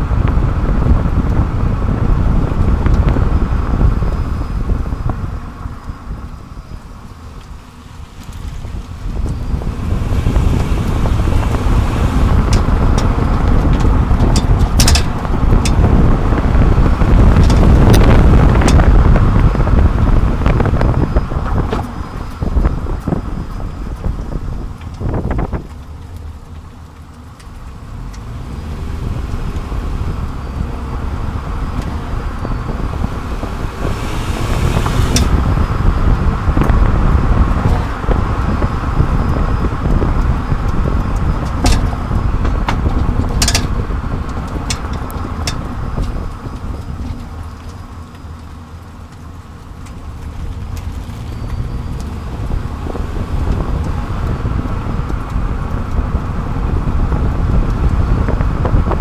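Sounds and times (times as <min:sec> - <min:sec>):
road tyre and wind noise: 0:00.0 - 0:59.0.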